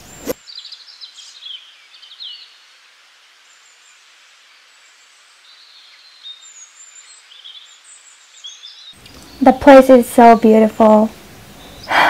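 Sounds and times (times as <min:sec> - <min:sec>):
steady outdoor hiss: 0:00.0 - 0:12.0
small birds chirping: 0:00.1 - 0:02.8, 0:03.4 - 0:12.0.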